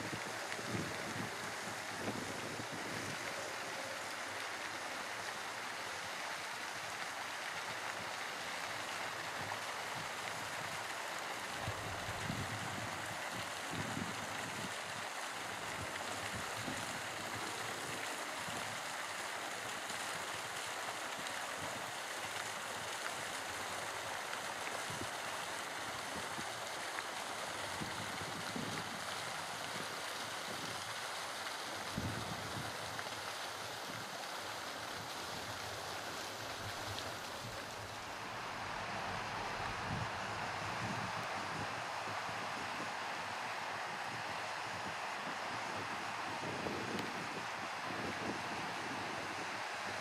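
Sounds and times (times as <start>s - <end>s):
fountain water splashing into basin: 0.0s - 50.0s.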